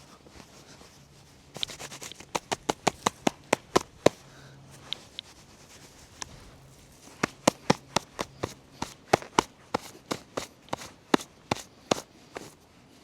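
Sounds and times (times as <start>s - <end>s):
animals tearing grass: 1.4s - 12.6s.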